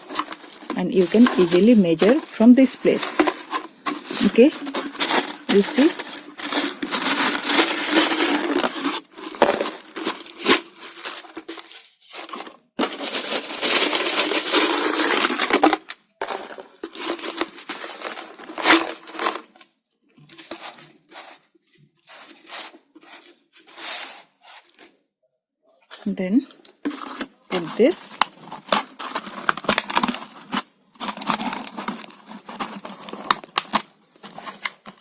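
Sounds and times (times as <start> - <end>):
rustling and crinkling materials: 0.0 - 25.0, 25.7 - 35.0.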